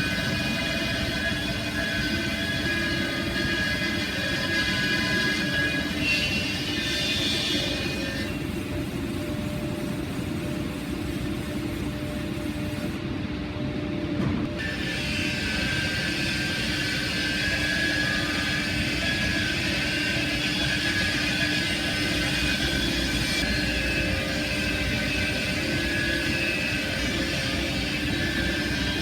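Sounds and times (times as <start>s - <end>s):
sawmill machinery running: 0.0s - 13.1s, 14.4s - 29.0s.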